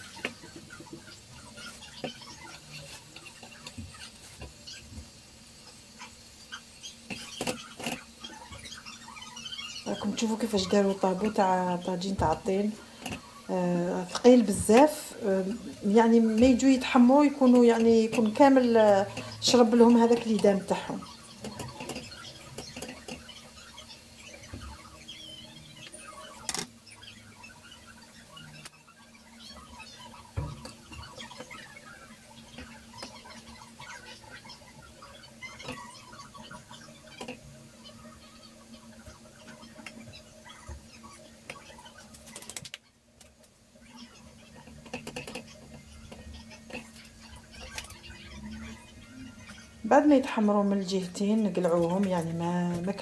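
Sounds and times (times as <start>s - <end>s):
bread frying on a griddle: 0.0s - 53.0s.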